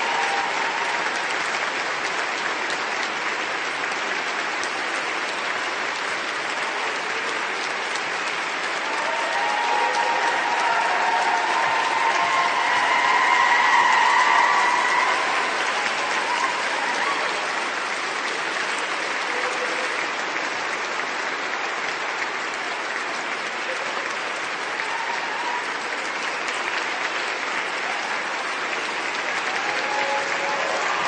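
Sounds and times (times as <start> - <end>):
crowd applauding: 0.0 - 31.0.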